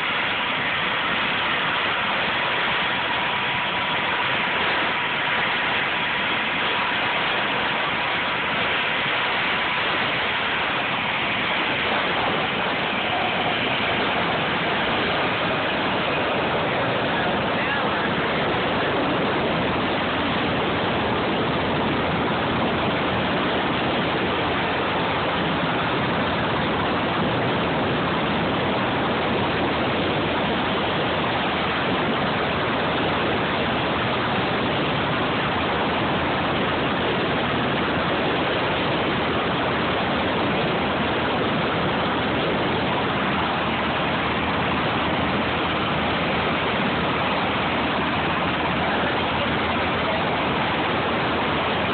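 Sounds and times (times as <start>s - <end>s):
helicopter running: 0.0s - 51.9s.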